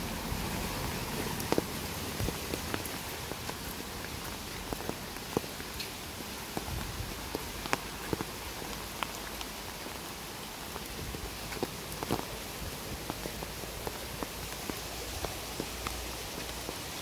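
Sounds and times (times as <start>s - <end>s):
raindrops tapping: 0.0s - 17.0s
steady rain hiss: 0.0s - 17.0s.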